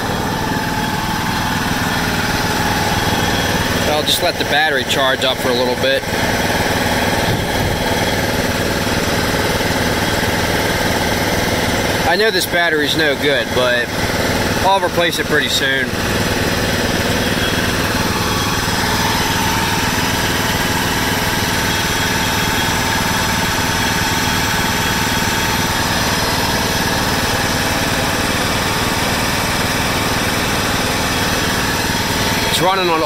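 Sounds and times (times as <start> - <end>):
lawn tractor engine running: 0.0 - 33.0.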